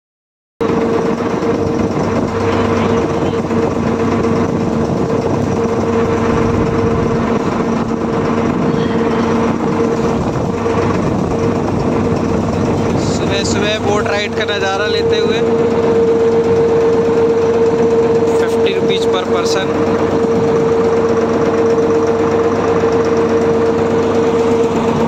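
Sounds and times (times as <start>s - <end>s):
motorboat engine humming: 0.6s - 25.0s
water rushing past boat: 0.6s - 25.0s.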